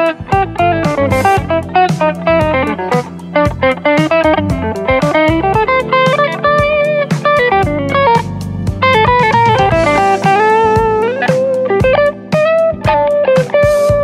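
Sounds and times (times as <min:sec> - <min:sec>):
backing track with drums: 0:00.0 - 0:14.0
electric guitar lead line: 0:00.0 - 0:14.0.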